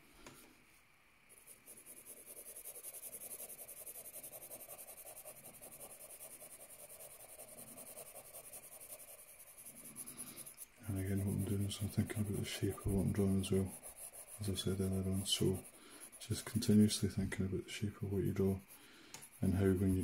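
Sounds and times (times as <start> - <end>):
pencil shading on paper: 1.3 - 20.0.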